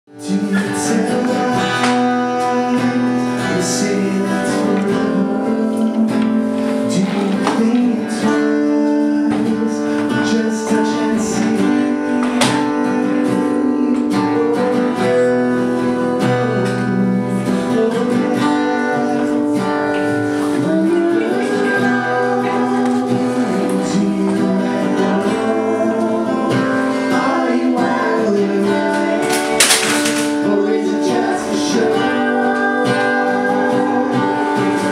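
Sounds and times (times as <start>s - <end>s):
acoustic guitar strumming: 0.1s - 34.9s
man singing: 0.1s - 34.9s.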